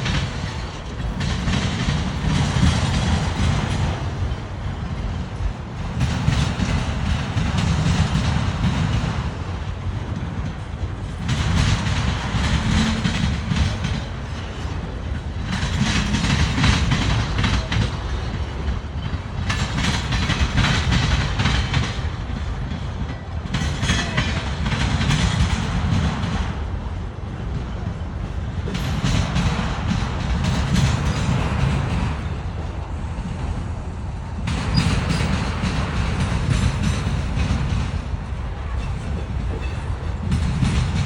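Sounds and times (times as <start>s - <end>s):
freight train rumble: 0.0s - 41.0s
train wheel clatter: 0.0s - 41.0s.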